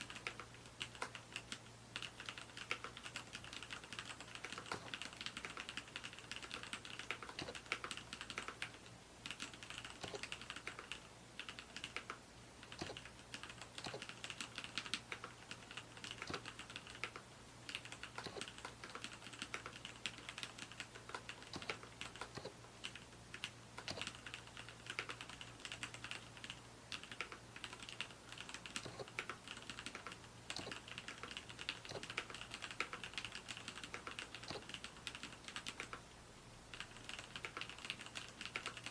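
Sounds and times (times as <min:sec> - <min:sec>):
mechanical keyboard typing: 0:00.0 - 0:36.0, 0:36.7 - 0:38.9.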